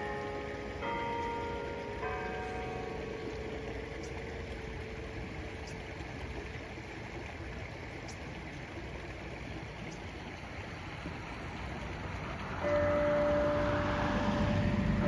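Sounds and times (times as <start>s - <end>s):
spring water running: 0.0s - 15.0s.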